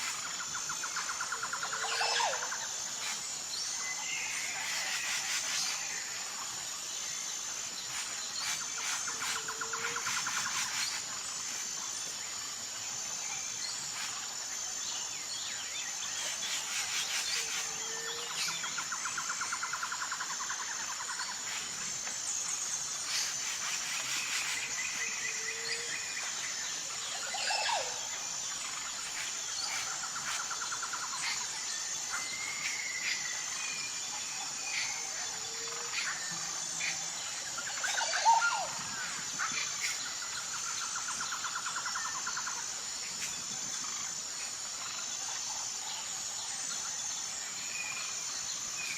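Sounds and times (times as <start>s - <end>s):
pulsing insect drone: 0.0s - 48.9s.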